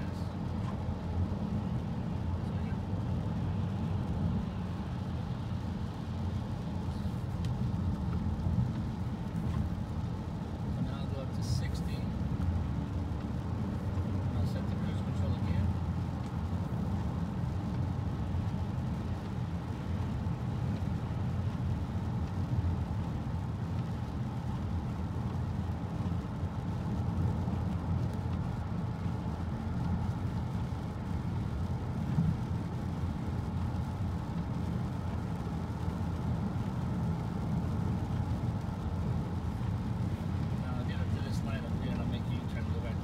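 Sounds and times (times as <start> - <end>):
tyres rumbling on wet pavement: 0.0 - 43.0
water noise on road: 0.0 - 43.0.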